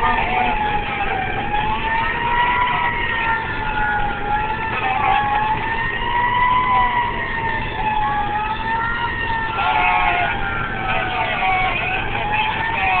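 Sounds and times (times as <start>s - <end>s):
fire engine siren wailing: 0.0s - 13.0s
truck engine rumble: 0.0s - 13.0s
wavering siren tones: 0.0s - 13.0s.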